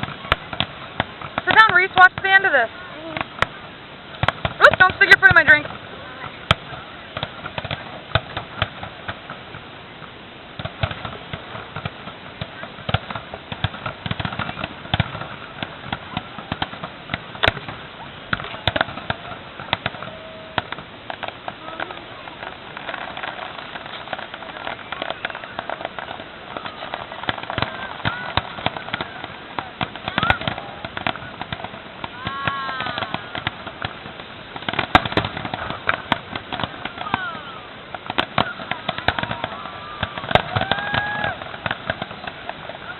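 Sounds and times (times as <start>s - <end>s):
fireworks popping and crackling: 0.0s - 42.9s
loud firework cracks: 0.0s - 42.9s.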